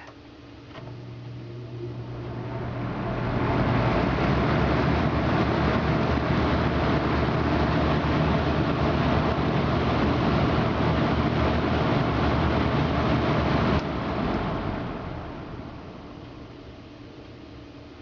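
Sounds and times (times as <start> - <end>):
box fan motor hum and air rush: 0.0 - 18.0.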